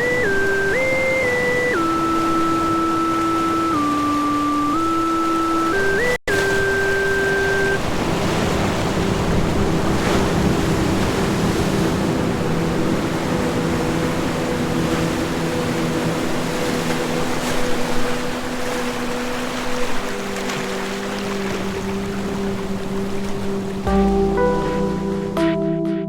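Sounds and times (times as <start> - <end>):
ocean surf washing in: 0.0 - 25.7
soft ambient music tones: 0.0 - 26.0.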